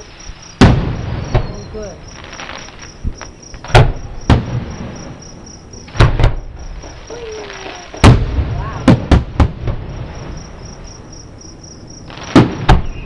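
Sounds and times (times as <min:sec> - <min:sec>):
crickets chirping: 0:00.0 - 0:13.0
distant fireworks booming: 0:00.0 - 0:13.0.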